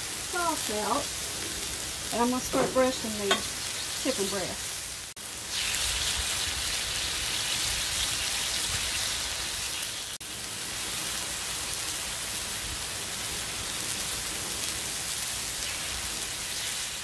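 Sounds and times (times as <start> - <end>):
chicken sizzling on a griddle: 0.0 - 17.0.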